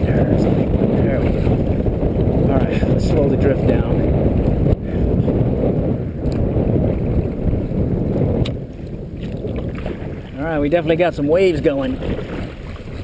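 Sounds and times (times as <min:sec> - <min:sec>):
waves washing against kayak hull: 0:00.0 - 0:13.0
wind buffeting microphone: 0:00.0 - 0:13.0.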